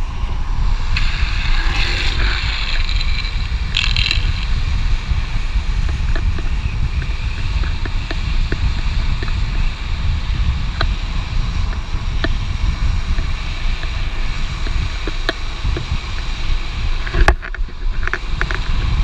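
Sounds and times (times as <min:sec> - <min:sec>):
skateboard wheels rumbling on road: 0:00.0 - 0:19.0
wheels sliding on pavement: 0:00.0 - 0:19.0
wind on microphone: 0:00.0 - 0:19.0.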